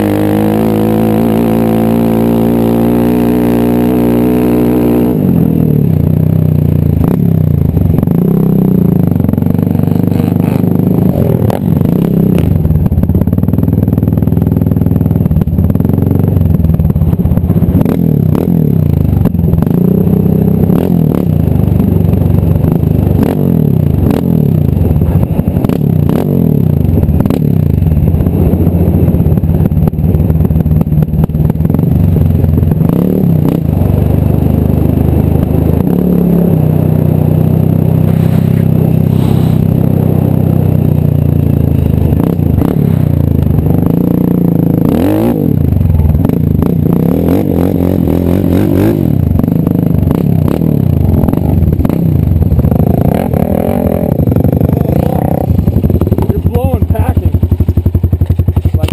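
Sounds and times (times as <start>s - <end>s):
quad bike engine revving: 0.0s - 58.9s.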